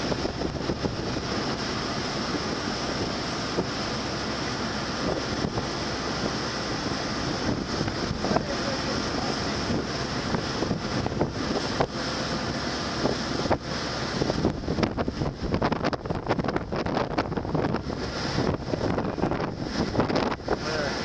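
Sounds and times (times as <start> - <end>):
rush of sea and vessel: 0.0 - 21.0
wind buffeting microphone: 0.0 - 21.0.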